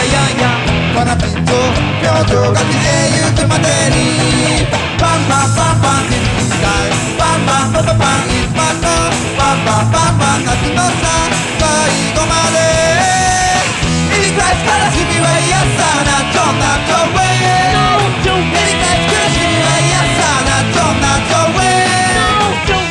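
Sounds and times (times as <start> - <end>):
distorted electric guitars: 0.0 - 22.9
drums: 0.0 - 22.9
person singing lead vocal: 0.0 - 22.9
punk rock song: 0.0 - 22.9.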